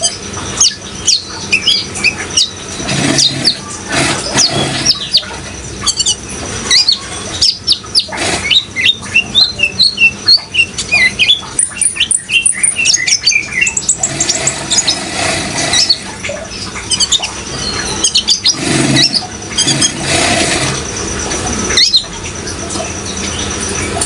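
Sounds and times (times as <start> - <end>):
sunbird chirps and trills: 0.0 - 20.8, 21.5 - 24.0
running water: 0.0 - 24.0.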